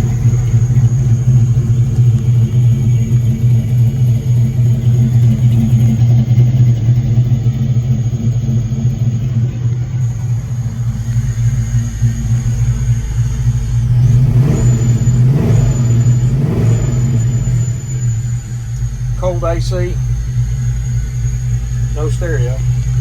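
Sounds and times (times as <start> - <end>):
engine running with loud hum: 0.0 - 23.0.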